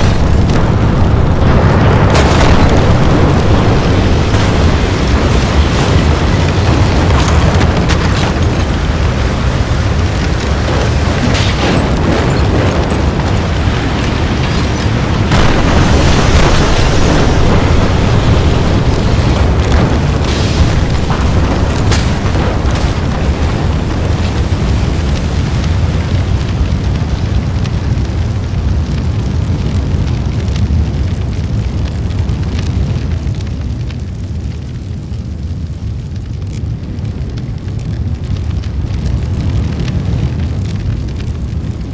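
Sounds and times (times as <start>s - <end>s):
explosive pops and bangs: 0.0s - 41.9s
fire rumbling and crackling: 0.0s - 41.9s.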